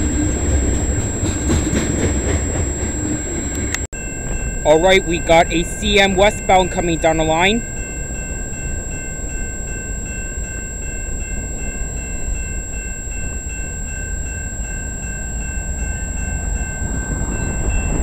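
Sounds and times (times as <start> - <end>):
freight train rumble: 0.0 - 18.0
level crossing warning bell: 0.0 - 18.0.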